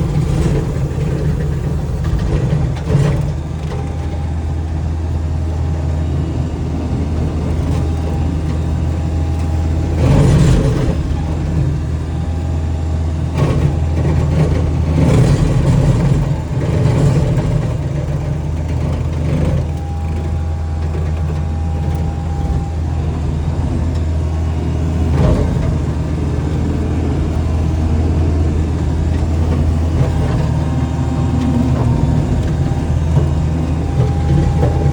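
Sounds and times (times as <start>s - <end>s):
skid steer engine running: 0.0s - 34.9s.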